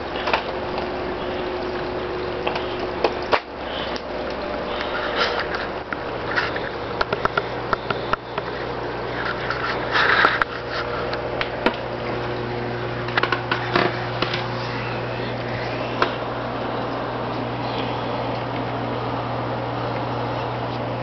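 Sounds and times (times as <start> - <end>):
aquarium pump humming: 0.0 - 21.0.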